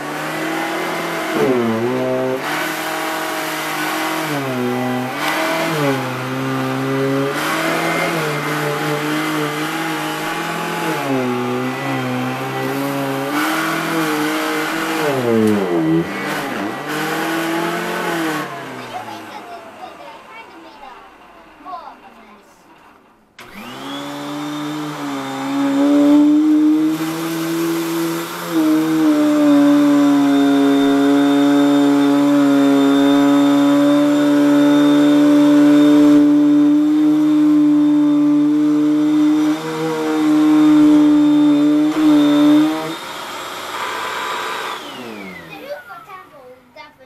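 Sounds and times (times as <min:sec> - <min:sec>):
vacuum cleaner motor whining: 0:00.0 - 0:22.0, 0:22.7 - 0:46.9.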